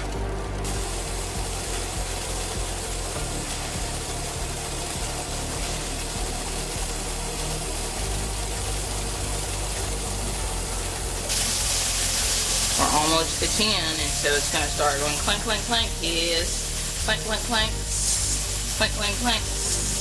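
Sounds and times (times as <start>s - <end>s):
pressure canner steam hissing: 0.0s - 20.0s.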